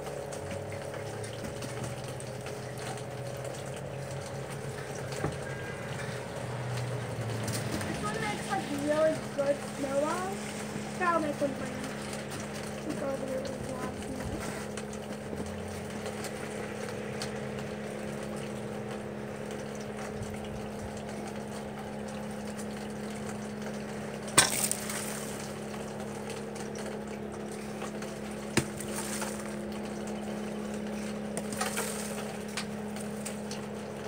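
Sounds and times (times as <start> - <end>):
machine-like hum: 0.0 - 34.0.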